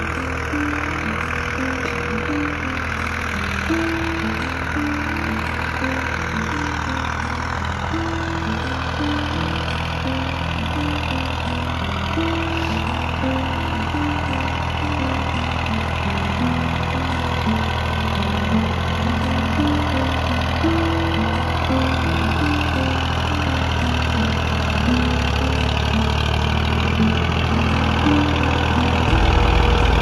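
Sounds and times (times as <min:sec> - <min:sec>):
background music melody: 0:00.0 - 0:30.0
tractor engine humming: 0:00.0 - 0:30.0.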